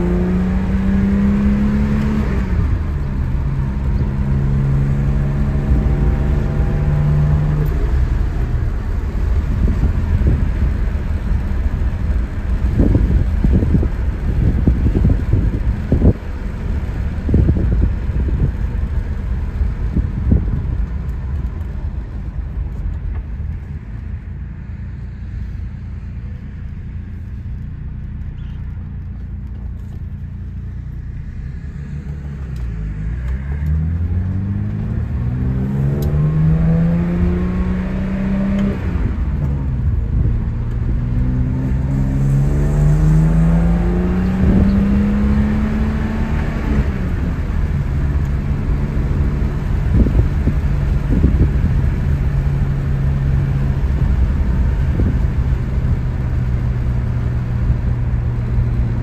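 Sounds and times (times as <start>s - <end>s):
car engine accelerating: 0.0s - 59.0s
road rumble: 0.0s - 59.0s.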